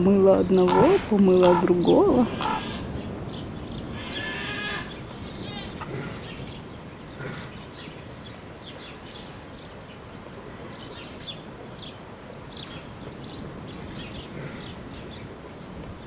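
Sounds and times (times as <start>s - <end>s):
outdoor background noise: 0.0s - 16.0s
small birds chirping: 0.0s - 16.0s.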